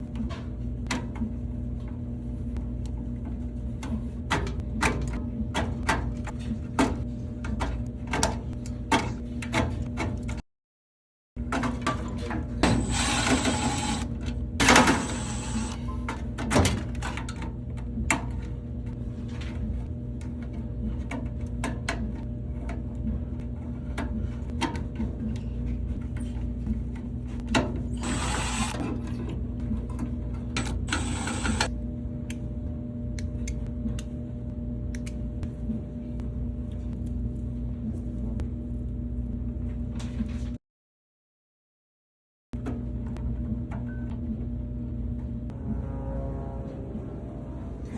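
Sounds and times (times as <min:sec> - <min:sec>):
steady mechanical hum: 0:00.0 - 0:10.4, 0:11.4 - 0:40.6, 0:42.6 - 0:47.9.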